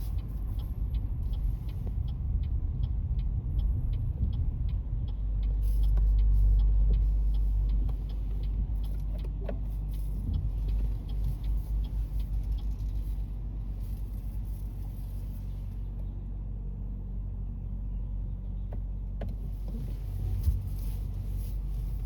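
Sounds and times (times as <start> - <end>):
car rumble from inside: 0.0 - 22.0.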